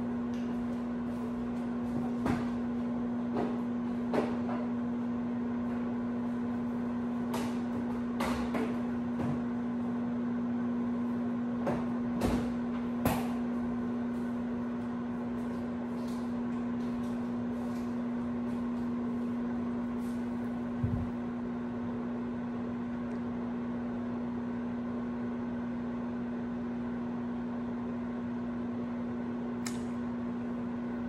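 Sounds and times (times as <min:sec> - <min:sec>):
microwave oven humming: 0:00.0 - 0:31.0.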